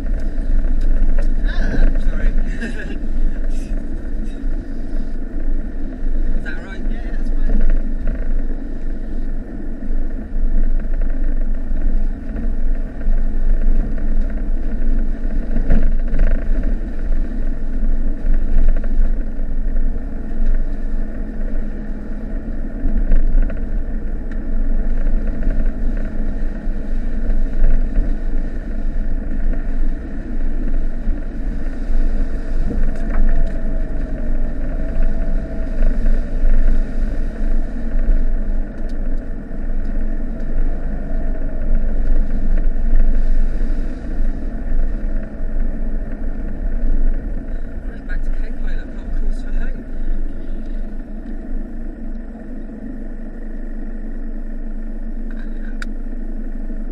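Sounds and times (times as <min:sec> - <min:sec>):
tyre and road noise: 0:00.0 - 0:56.9
van engine drone: 0:00.0 - 0:56.9.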